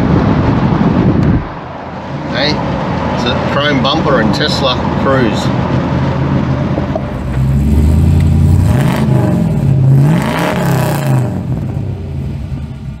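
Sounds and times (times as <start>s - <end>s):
car engine revving: 0.4s - 13.0s.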